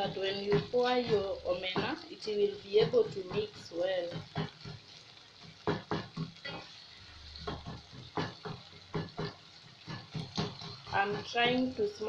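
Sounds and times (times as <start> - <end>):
wooden spatula scraping a pot: 0.0 - 11.9
faint sizzle: 0.0 - 12.0.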